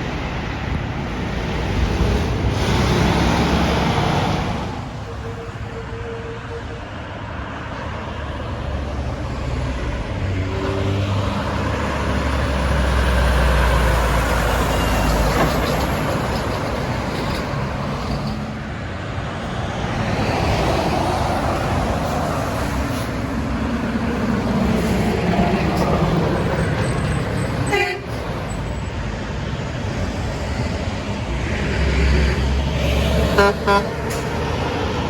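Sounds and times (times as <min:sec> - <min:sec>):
heavy truck engine: 0:00.0 - 0:35.0
highway traffic passing: 0:00.0 - 0:35.0.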